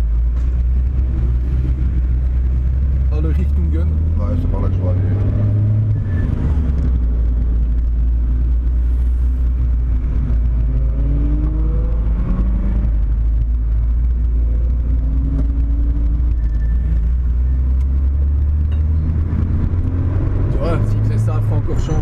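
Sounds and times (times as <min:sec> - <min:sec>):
car engine drone from inside cabin: 0:00.0 - 0:22.0.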